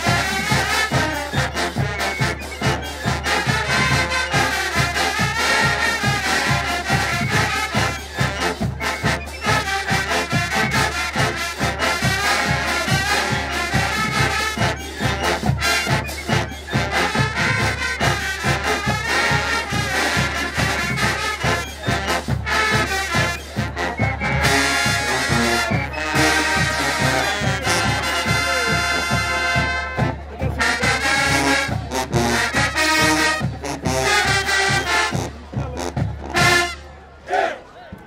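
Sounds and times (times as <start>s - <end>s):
steady driving drum beat: 0.0s - 36.8s
marching band brass: 0.0s - 38.0s.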